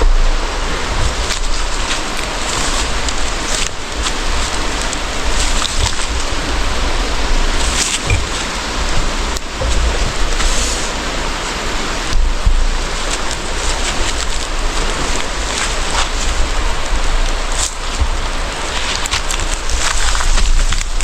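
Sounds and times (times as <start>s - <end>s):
low microphone rumble: 0.0s - 21.0s
undergrowth rustling: 0.4s - 21.0s
twigs snapping: 1.1s - 6.8s, 7.6s - 11.0s, 12.8s - 21.0s.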